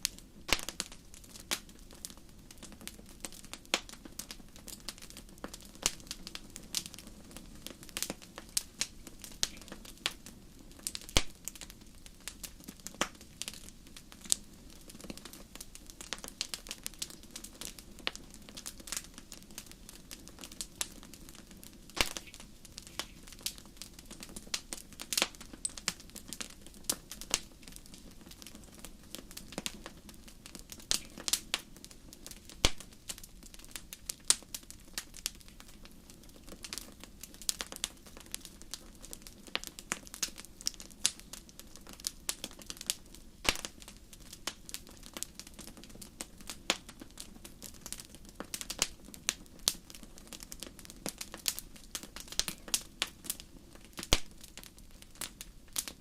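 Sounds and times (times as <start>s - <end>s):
campfire popping and snapping: 0.0s - 56.0s
low hiss of burning: 0.0s - 56.0s.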